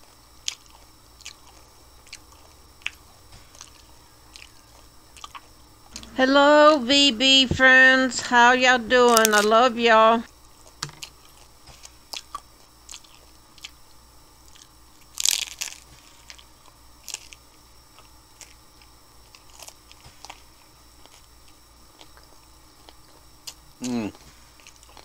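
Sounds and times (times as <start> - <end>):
crunchy taco shells chewing: 0.0 - 6.2, 10.3 - 25.0.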